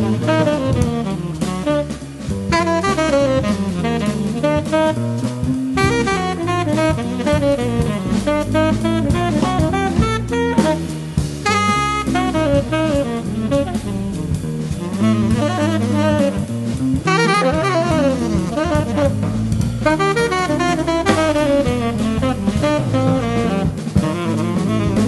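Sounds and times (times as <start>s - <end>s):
drum kit: 0.0s - 25.0s
electric bass: 0.0s - 25.0s
tenor saxophone melody: 0.0s - 25.0s.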